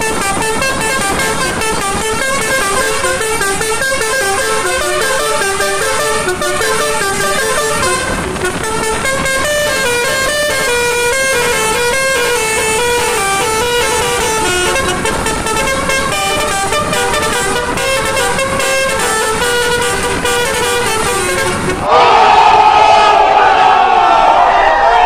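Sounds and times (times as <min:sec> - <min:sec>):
musical car horns playing tune: 0:00.0 - 0:21.9.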